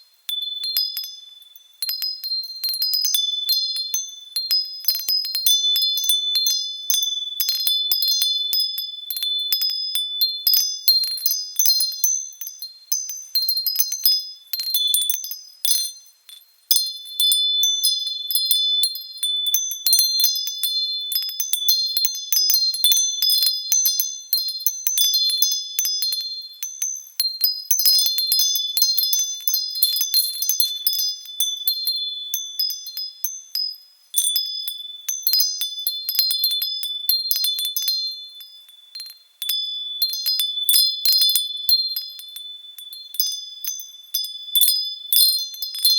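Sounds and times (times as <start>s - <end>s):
wind chimes ringing: 0.0s - 45.9s.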